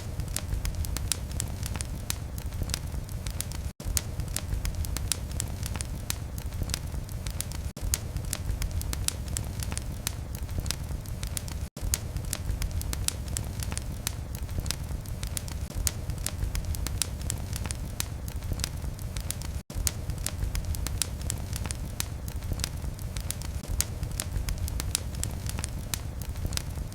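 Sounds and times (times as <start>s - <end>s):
fire crackling and popping: 0.0s - 26.9s
low fire rumble: 0.0s - 26.9s.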